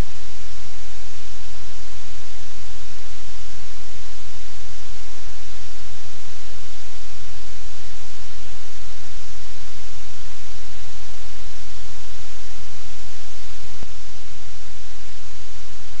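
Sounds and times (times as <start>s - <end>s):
low electrical hum: 0.0s - 16.0s
static hiss: 0.0s - 16.0s.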